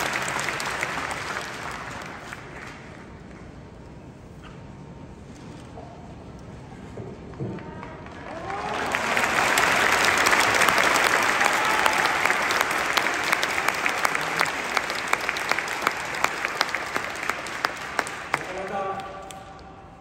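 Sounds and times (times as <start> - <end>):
stadium crowd applauding: 0.0 - 3.6, 7.3 - 20.0.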